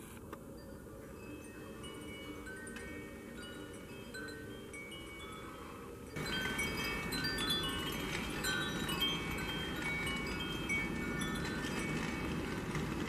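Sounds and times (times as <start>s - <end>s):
wind chimes ringing: 0.4s - 13.0s.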